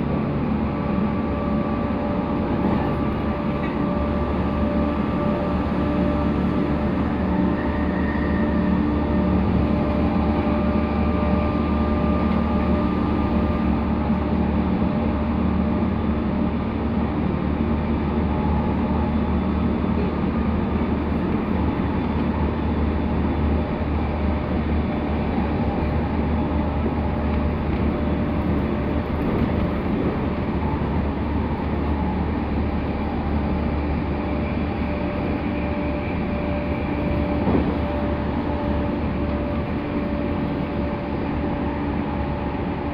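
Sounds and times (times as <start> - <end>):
train hum of fixed tones: 0.0 - 42.9
wheel-on-rail rumble: 0.0 - 42.9.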